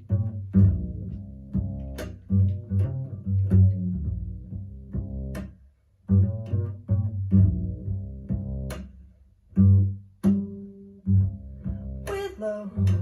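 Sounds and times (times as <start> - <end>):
plucked double bass notes: 0.0 - 13.0.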